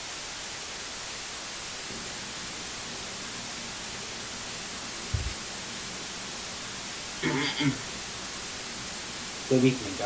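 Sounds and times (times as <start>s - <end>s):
static hiss: 0.0s - 10.0s
faint low hum: 1.8s - 10.0s.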